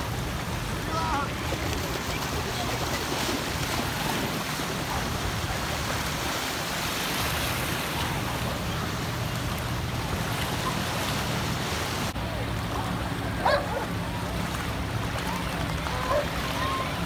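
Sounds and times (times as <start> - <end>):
lake waves washing on shore: 0.0 - 17.0.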